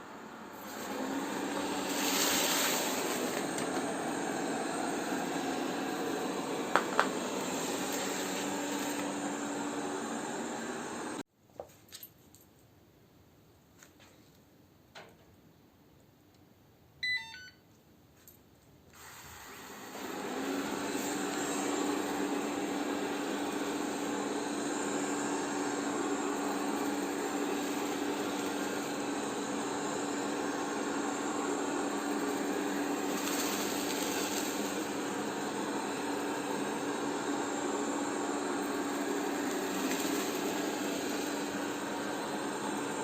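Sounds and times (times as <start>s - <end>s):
robot vacuum fan humming: 0.0s - 11.2s, 19.5s - 43.0s.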